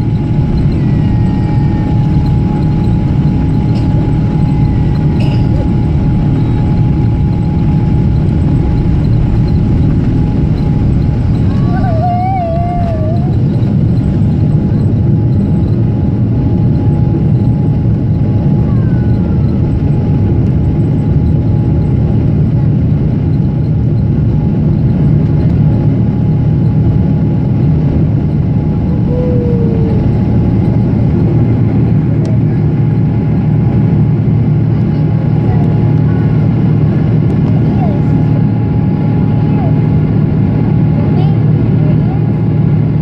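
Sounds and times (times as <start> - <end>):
jet engine cabin rumble: 0.0 - 43.0.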